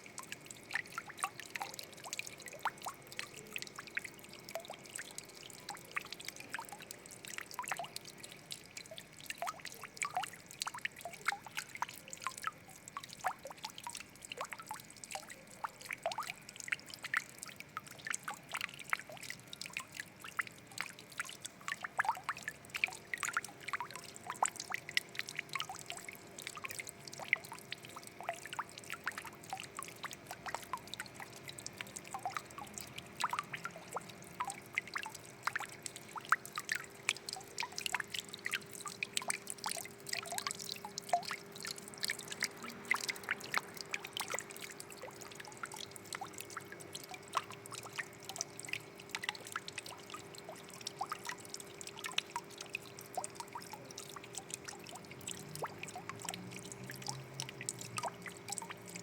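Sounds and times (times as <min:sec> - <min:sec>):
faint steady hum: 0:00.0 - 0:59.0
water trickling and dripping: 0:00.0 - 0:59.0.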